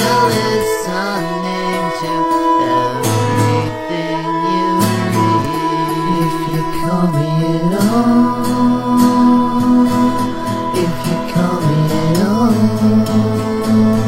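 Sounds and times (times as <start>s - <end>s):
instrumental backing: 0.0s - 14.0s
person singing long notes: 0.0s - 14.0s.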